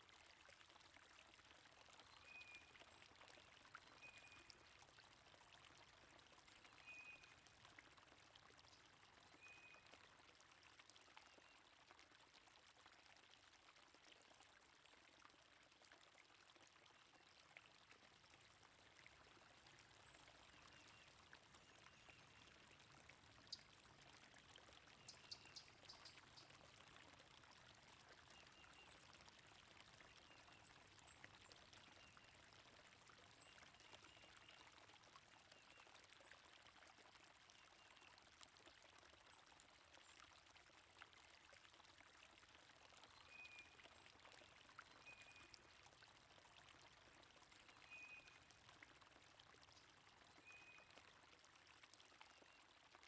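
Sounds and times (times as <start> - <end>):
faint stream flowing: 0.0 - 53.0.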